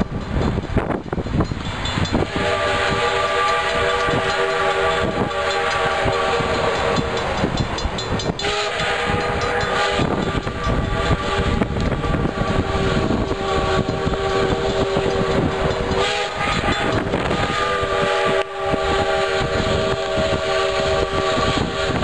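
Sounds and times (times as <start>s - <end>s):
steam locomotive hissing and working: 0.0s - 22.0s
steam whistle chime blasts: 1.9s - 22.0s.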